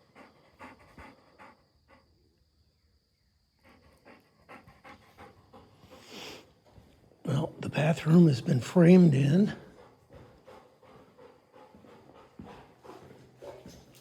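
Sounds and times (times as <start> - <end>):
dog panting: 0.0 - 2.4, 3.5 - 7.2, 7.8 - 14.0.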